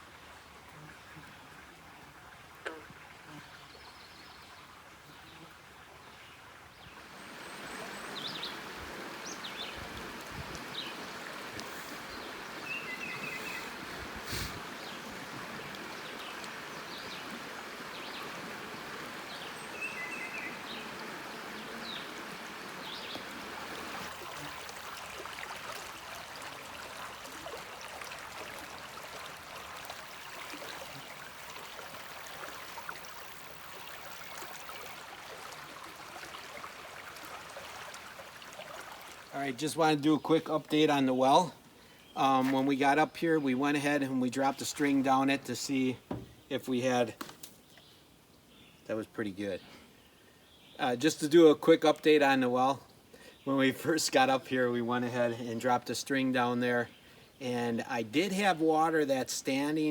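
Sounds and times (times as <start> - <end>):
stream running water: 0.0 - 59.9.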